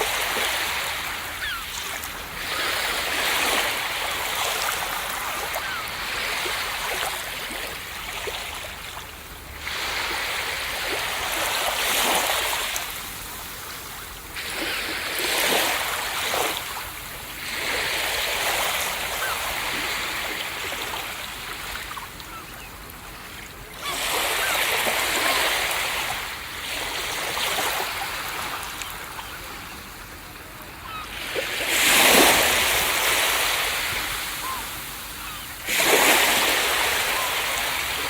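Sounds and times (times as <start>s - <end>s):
ocean waves breaking: 0.0s - 38.0s.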